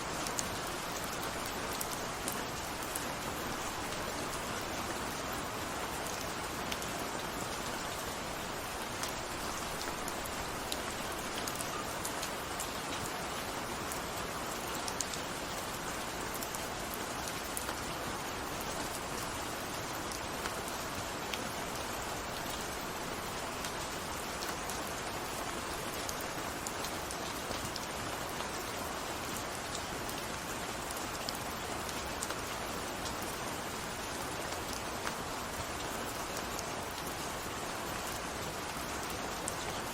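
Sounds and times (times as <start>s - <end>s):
hiss of rain: 0.0s - 39.9s
raindrops ticking on a surface: 0.0s - 39.9s.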